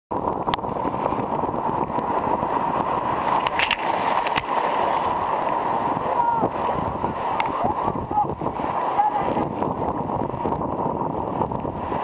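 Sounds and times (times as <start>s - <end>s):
surf churning and hissing: 0.1s - 12.0s.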